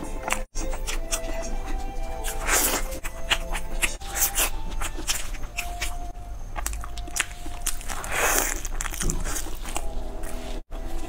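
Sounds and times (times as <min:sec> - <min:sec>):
chewing crunchy fried food: 0:00.0 - 0:11.0.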